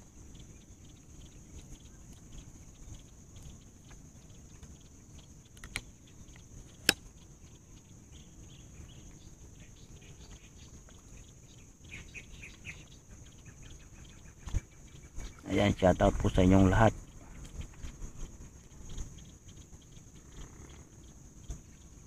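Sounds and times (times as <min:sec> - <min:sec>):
faint rapid chirps: 0:00.0 - 0:22.0
steady high hiss: 0:00.0 - 0:22.0.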